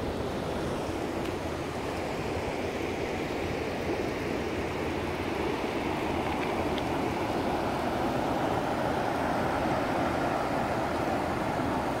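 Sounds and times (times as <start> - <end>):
distant waterfall rushing: 0.0 - 12.0.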